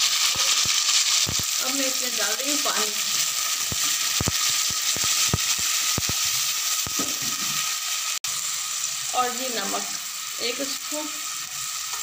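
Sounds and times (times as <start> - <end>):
oil sizzling with crackling pops: 0.0 - 12.0.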